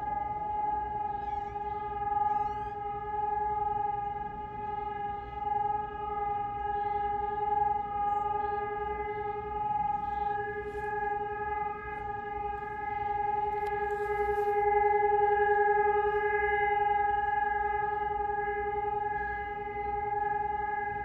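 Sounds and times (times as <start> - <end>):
electronic siren steady tone: 0.0 - 21.0.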